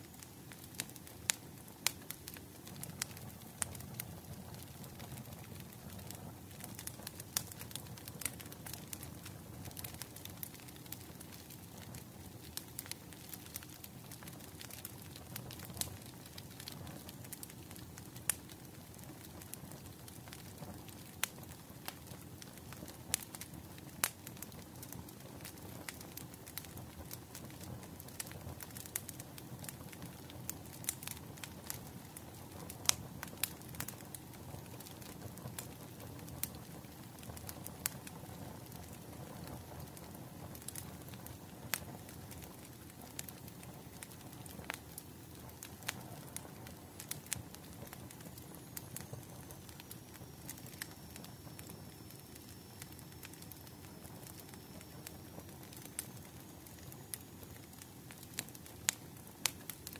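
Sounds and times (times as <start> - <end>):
fire crackling and popping: 0.0 - 59.9
wood fire rumbling: 0.1 - 59.9.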